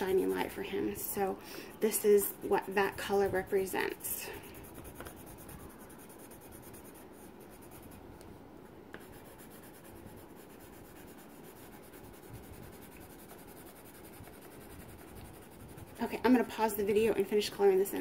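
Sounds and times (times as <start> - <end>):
pencil scratching on paper: 1.8 - 8.0, 9.0 - 18.0.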